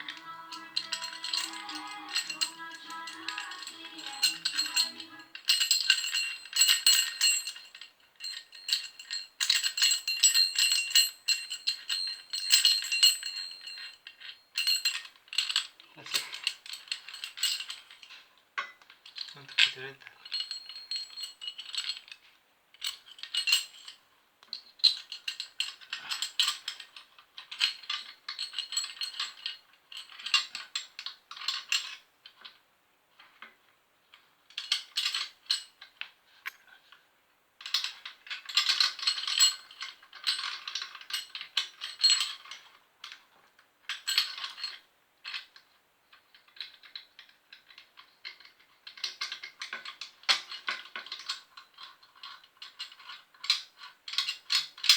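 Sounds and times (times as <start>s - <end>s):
metal parts clinking and rattling: 0.0s - 18.2s, 24.8s - 32.6s, 34.1s - 36.6s, 37.6s - 43.2s, 43.8s - 45.6s, 46.3s - 54.9s.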